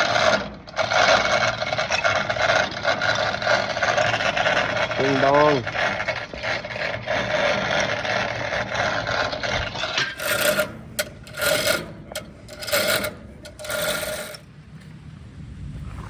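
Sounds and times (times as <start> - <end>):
rough rasping scrape: 0.0 - 15.0.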